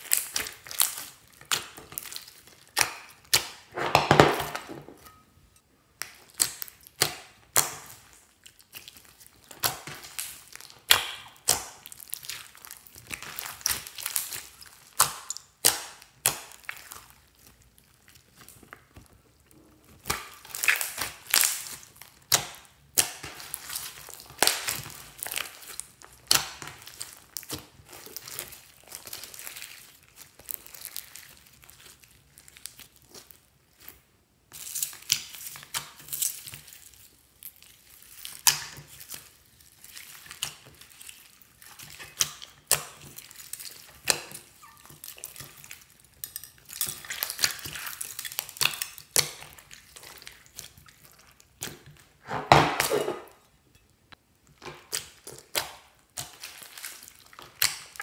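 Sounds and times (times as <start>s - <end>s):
slime crackling and popping: 0.0s - 3.7s, 6.0s - 52.2s, 54.5s - 58.0s
hands squishing slime: 0.0s - 5.2s, 6.0s - 52.2s, 54.5s - 58.0s.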